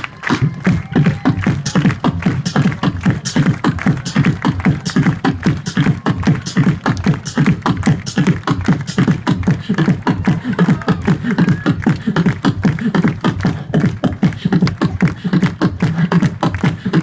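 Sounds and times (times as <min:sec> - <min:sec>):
beatboxing through a microphone: 0:00.0 - 0:17.0.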